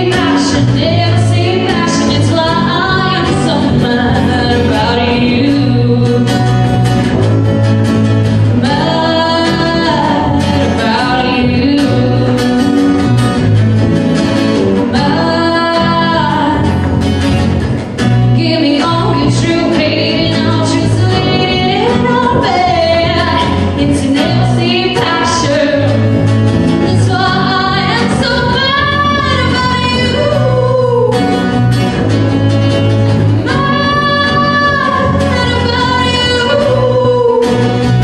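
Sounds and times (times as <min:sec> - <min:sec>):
woman singing: 0:00.0 - 0:07.1, 0:08.4 - 0:13.4, 0:14.7 - 0:17.2, 0:18.2 - 0:31.6, 0:33.3 - 0:38.0
acoustic guitars playing: 0:00.0 - 0:38.0.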